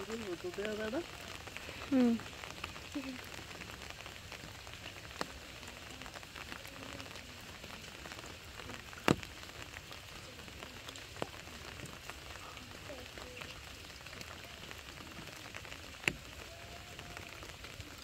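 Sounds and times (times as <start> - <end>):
rain on water and leaves: 0.0 - 18.0.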